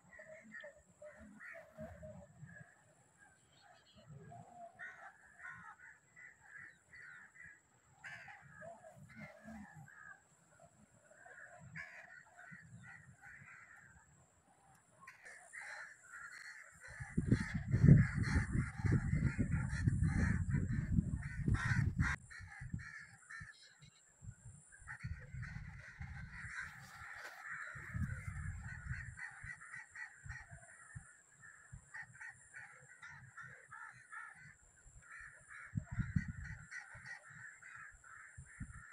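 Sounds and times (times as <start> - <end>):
crows cawing: 0.0 - 2.8, 4.0 - 14.2, 15.0 - 24.0, 24.6 - 38.9.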